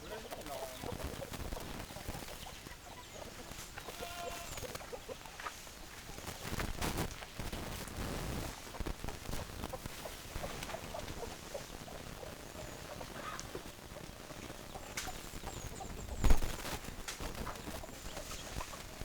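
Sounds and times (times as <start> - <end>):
hens clucking: 0.0 - 19.0
rustling: 3.4 - 19.0.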